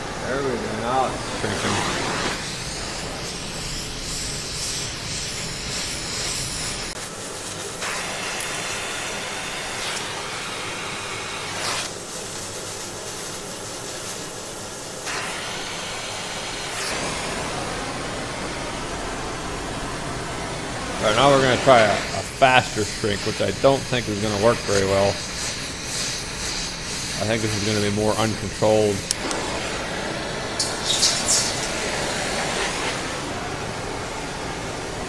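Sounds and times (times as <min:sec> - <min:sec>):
steam hissing: 0:00.0 - 0:35.0
torch flame hissing: 0:00.0 - 0:35.0.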